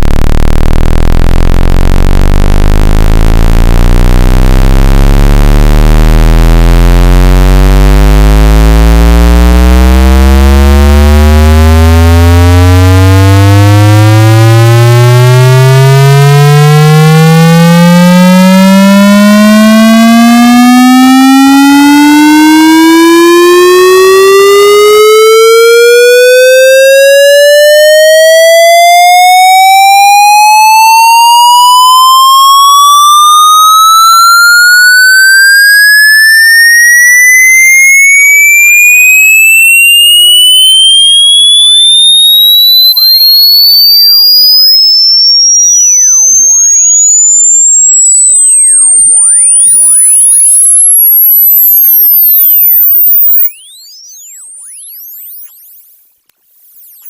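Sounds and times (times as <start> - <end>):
buzzy electronic tone sweeping upward: 0.0 - 56.0.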